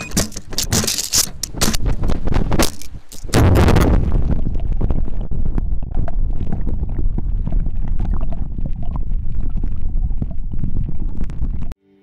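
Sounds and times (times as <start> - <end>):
microphone crackles: 0.0 - 11.8
wind on microphone: 0.0 - 11.8.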